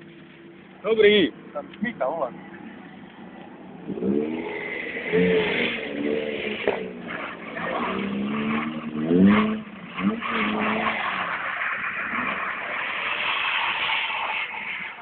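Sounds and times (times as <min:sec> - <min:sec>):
car engine revving: 0:01.0 - 0:15.0.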